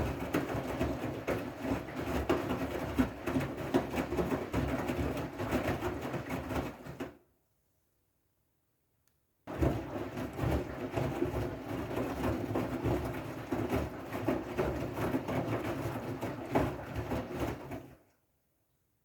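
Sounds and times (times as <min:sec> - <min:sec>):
washing machine motor hum: 0:00.0 - 0:07.1, 0:09.5 - 0:18.1
wet laundry clattering and sloshing: 0:00.0 - 0:07.2, 0:09.5 - 0:18.2.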